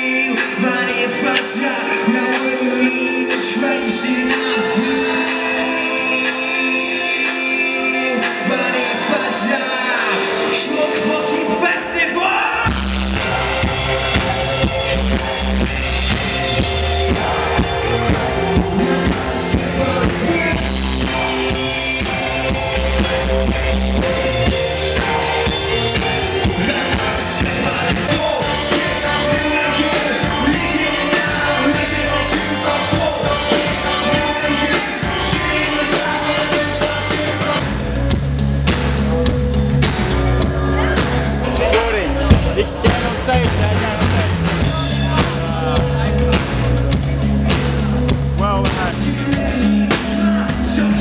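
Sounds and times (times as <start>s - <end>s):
rock band music with male singer: 0.0s - 51.0s.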